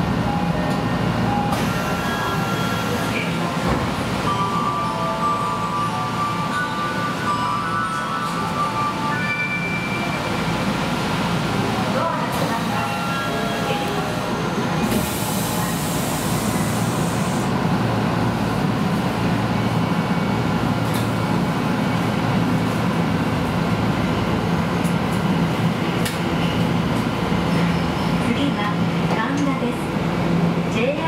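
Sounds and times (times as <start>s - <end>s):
train wheels rumbling on rail: 0.0s - 4.7s, 10.0s - 31.0s.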